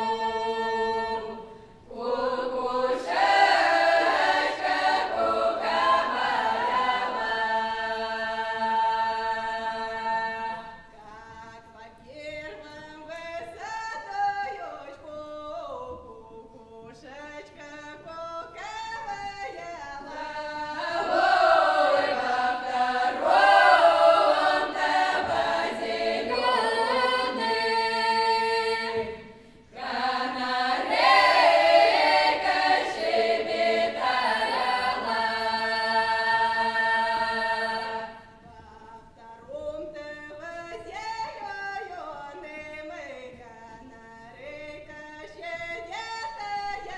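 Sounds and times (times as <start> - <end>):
folk choir singing unaccompanied: 0.0 - 46.9.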